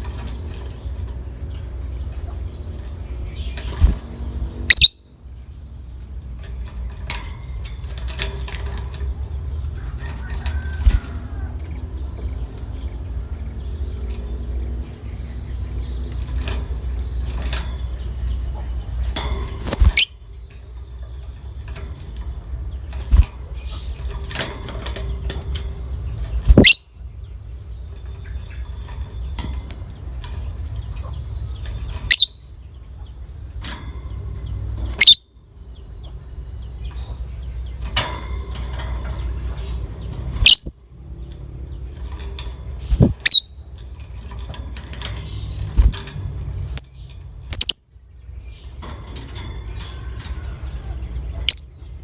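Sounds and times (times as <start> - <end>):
lovebird chirping and chattering: 0.0 - 24.4, 25.0 - 48.8, 49.6 - 52.0.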